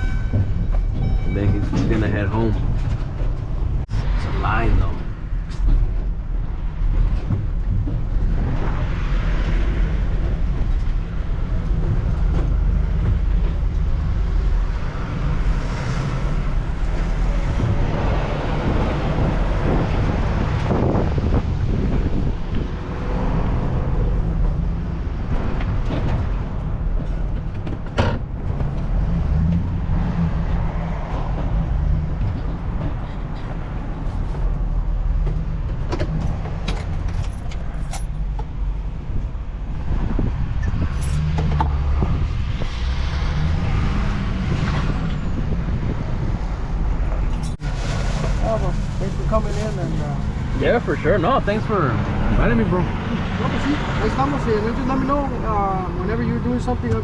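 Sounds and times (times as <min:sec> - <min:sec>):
vehicle motor rumble: 0:00.0 - 0:57.0.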